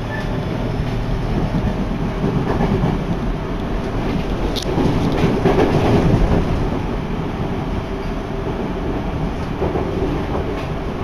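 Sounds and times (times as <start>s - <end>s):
rushing wind: 0.0s - 11.0s
train wheels rumbling on rails: 0.0s - 11.0s.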